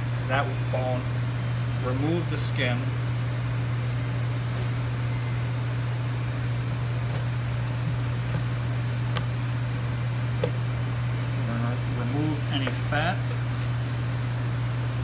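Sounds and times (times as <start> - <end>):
ventilation hum and hiss: 0.0 - 15.0.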